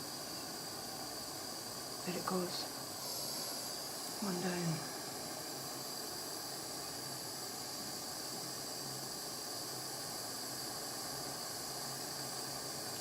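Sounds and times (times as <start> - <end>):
soldering torch flame hissing: 0.0 - 13.0.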